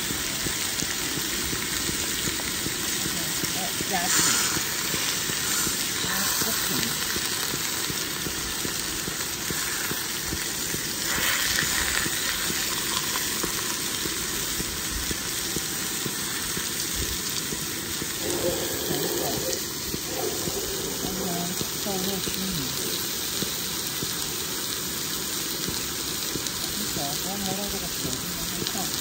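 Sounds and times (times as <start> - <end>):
steaks sizzling in a skillet: 0.0 - 29.0.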